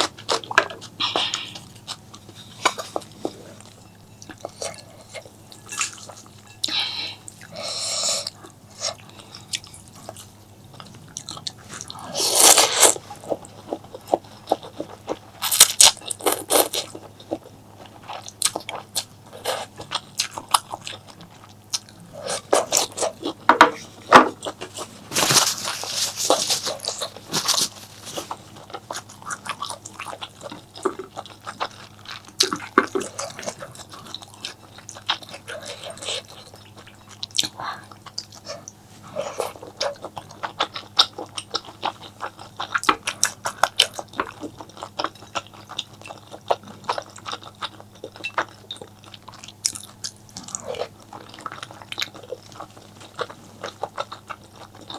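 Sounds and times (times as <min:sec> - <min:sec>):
person chewing and biting food: 0:00.0 - 0:54.9.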